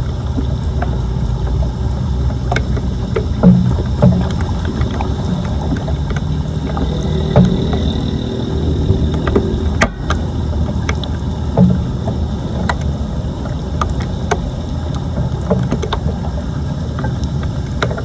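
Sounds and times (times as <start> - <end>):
sharp clicks and knocks: 0.0 - 16.3, 16.9 - 18.0
water rushing into drain: 0.0 - 18.0.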